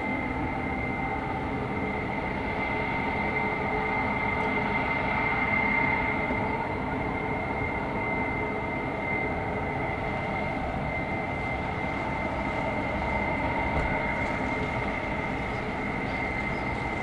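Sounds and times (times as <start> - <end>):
high whine: 0.0 - 17.0.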